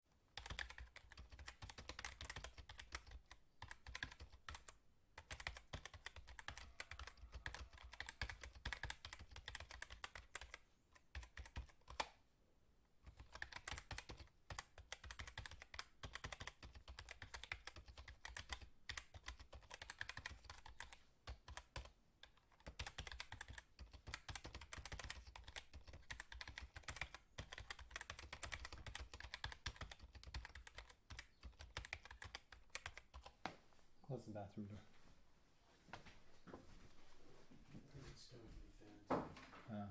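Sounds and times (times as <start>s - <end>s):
fast typing on keyboard: 0.3s - 12.1s, 13.0s - 33.4s.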